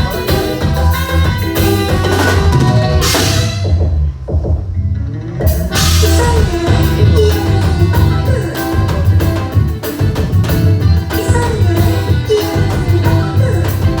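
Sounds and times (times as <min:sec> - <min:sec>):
live folk band playing: 0:00.0 - 0:03.9, 0:05.5 - 0:14.0
drums steady beat: 0:00.0 - 0:04.7, 0:05.4 - 0:14.0
bass line: 0:00.0 - 0:14.0.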